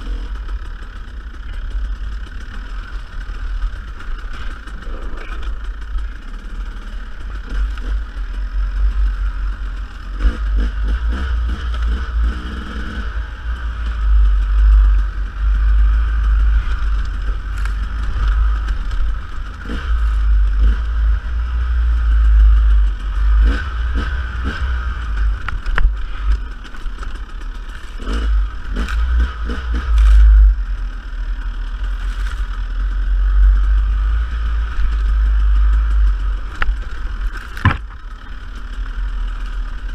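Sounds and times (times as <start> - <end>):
rocks and chassis clattering: 0.0 - 13.0, 13.6 - 20.8, 22.1 - 30.6, 31.4 - 39.9
dirt bike engine running: 0.0 - 39.9.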